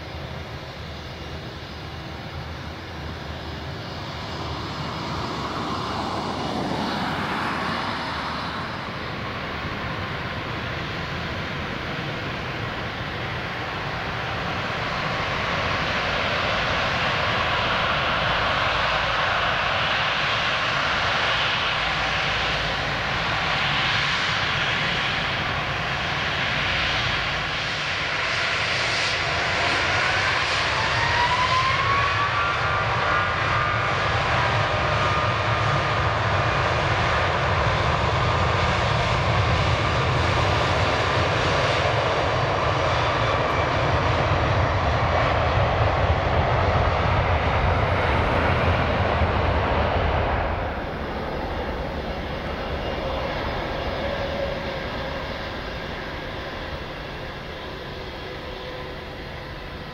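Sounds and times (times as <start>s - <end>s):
jet engine rumble and hiss: 0.0s - 59.9s
jet engine whine: 0.0s - 59.9s.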